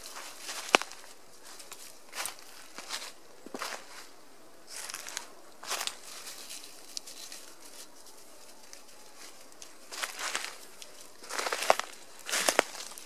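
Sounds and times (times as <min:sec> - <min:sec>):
footsteps crunching through dry leaves: 0:00.0 - 0:13.0.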